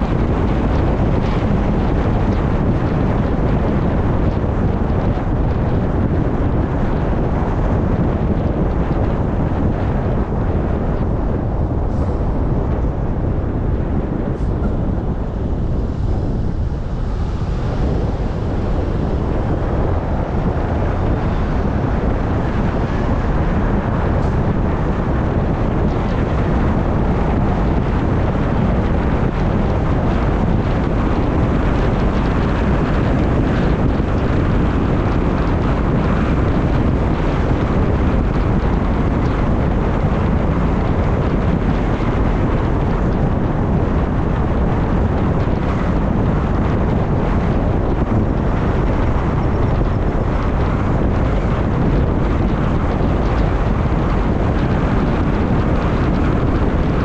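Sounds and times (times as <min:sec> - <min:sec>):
street traffic: 0:00.0 - 0:57.0
wind buffeting microphone: 0:00.0 - 0:57.0.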